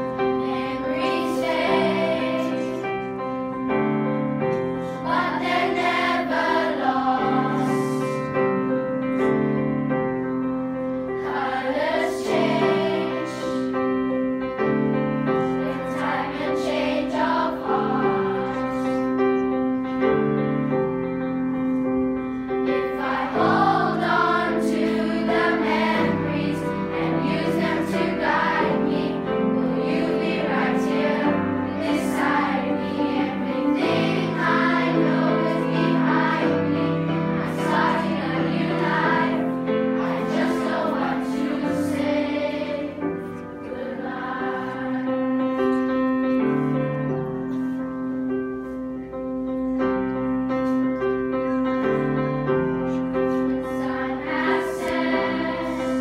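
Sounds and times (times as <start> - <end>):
children's choir singing: 0.0 - 20.2, 21.6 - 48.4, 50.6 - 56.0
grand piano: 0.0 - 56.0.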